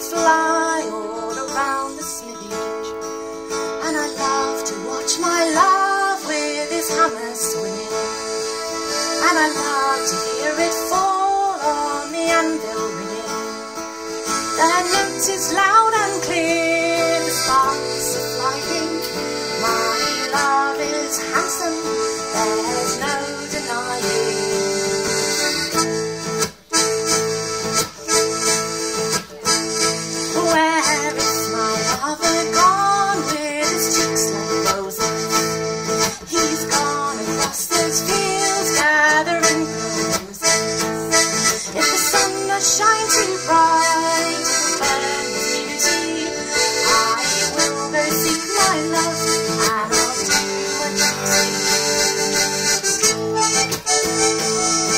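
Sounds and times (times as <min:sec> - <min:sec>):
accordion melody: 0:00.0 - 0:54.9
strummed acoustic guitar: 0:00.0 - 0:54.9.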